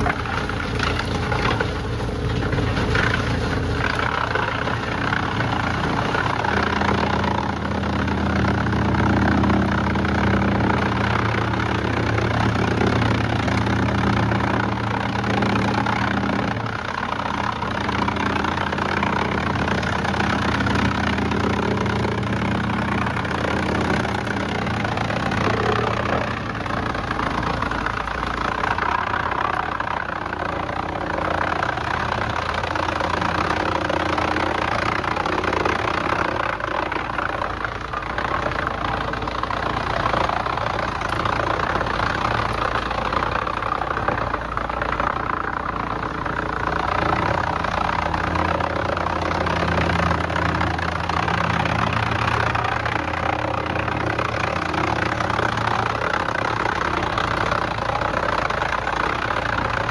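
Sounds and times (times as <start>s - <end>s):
heavy machinery engine hum: 0.0s - 59.9s.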